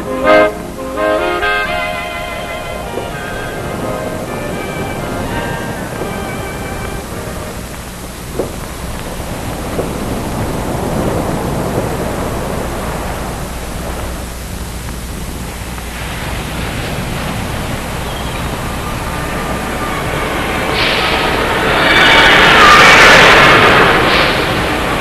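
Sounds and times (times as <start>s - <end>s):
ocean surf washing on beach: 0.0s - 25.0s.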